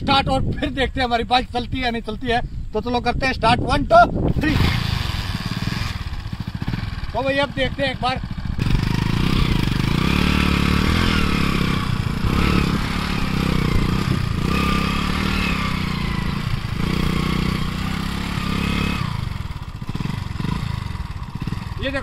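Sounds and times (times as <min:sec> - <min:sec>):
motorcycle engine revving: 0:04.3 - 0:22.0.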